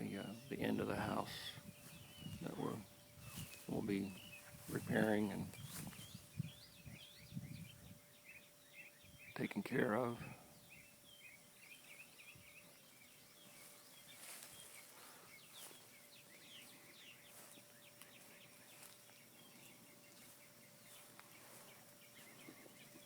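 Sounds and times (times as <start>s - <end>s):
faint bird chirps: 0.0s - 23.0s
faint steady tone: 0.0s - 23.0s.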